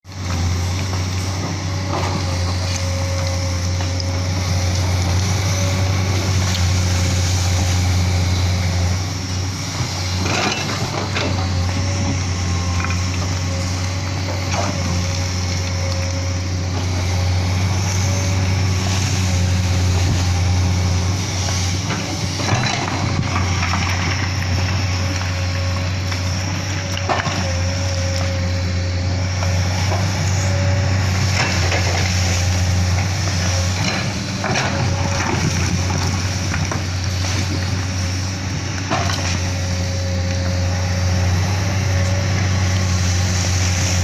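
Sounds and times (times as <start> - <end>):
excavator diesel engine running: 0.1 - 44.0.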